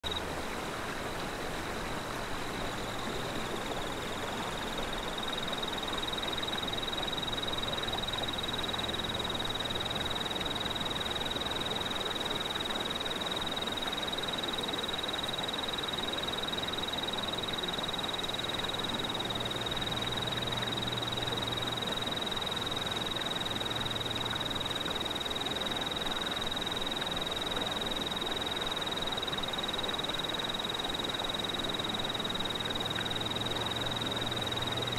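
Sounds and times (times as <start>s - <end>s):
insects trilling: 2.8s - 34.9s.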